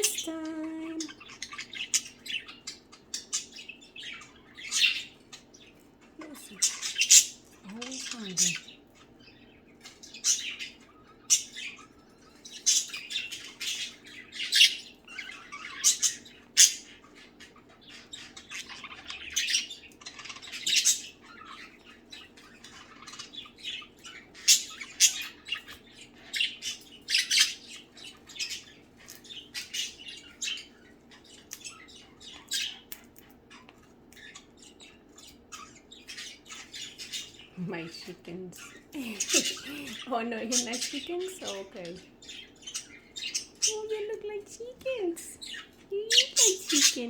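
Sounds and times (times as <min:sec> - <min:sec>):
budgerigars chirping and squawking: 0:00.0 - 0:47.0.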